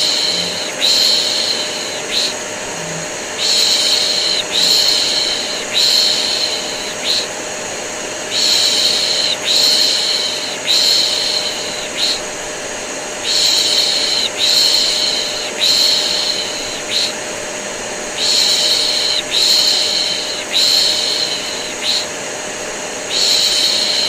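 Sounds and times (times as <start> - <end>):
vacuum cleaner drone: 0.0 - 24.0.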